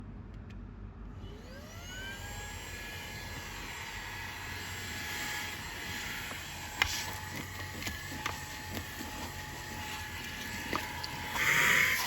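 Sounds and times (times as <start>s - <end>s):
handheld vacuum motor whine: 1.2s - 12.0s.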